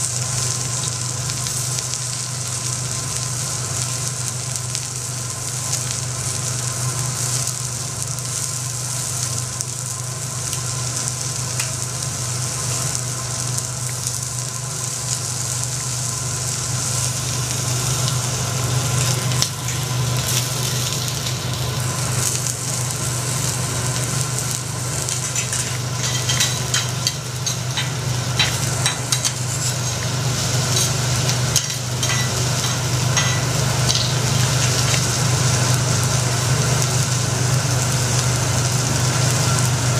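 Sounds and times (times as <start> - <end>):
food sizzling on griddle: 0.0 - 39.9.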